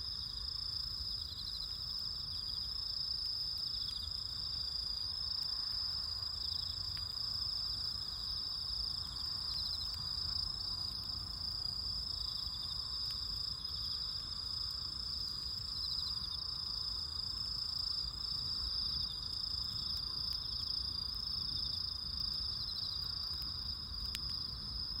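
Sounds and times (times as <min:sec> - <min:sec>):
insects trilling: 0:00.0 - 0:25.0
low background hiss: 0:00.0 - 0:25.0.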